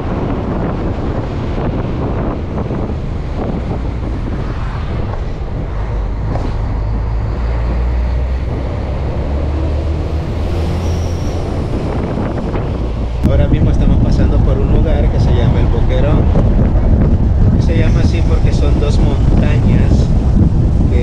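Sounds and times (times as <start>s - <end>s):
bus engine rumble: 0.0s - 21.0s
road noise: 0.0s - 21.0s
wind noise on microphone: 0.0s - 21.0s.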